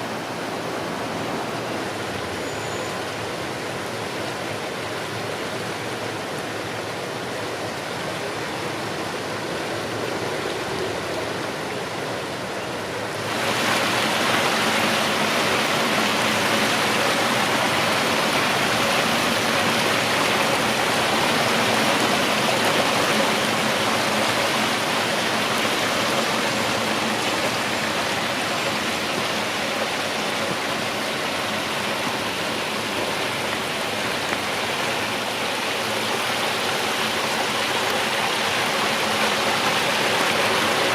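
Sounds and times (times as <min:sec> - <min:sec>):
water cascading down stone channels: 0:00.0 - 0:40.9.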